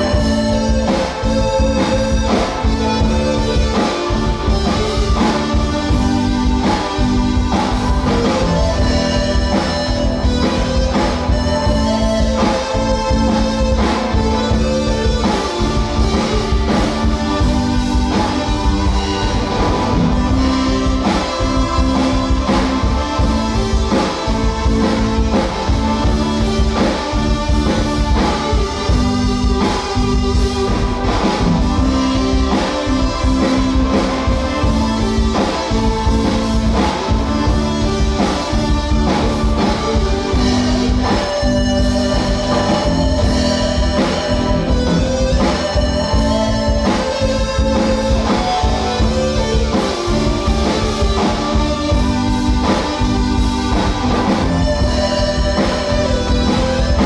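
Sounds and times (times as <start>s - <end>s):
drums keeping a steady beat: 0.0s - 57.0s
electric guitars: 0.0s - 57.0s
keyboard: 0.0s - 57.0s.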